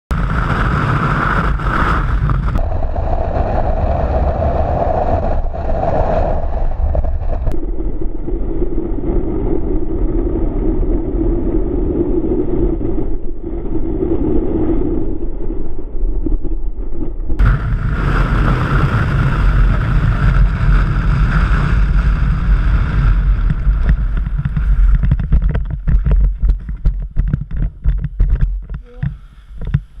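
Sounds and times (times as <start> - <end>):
wind rushing over microphone: 0.1 - 30.0.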